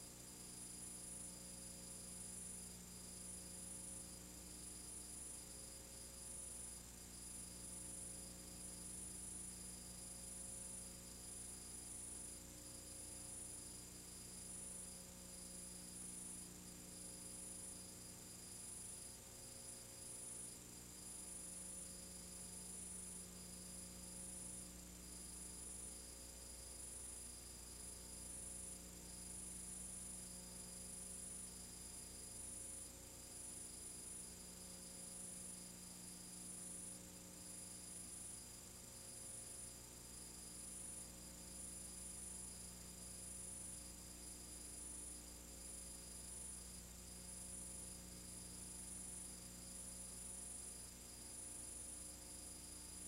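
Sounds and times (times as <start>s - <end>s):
faint electrical hum and hiss: 0.0s - 53.0s.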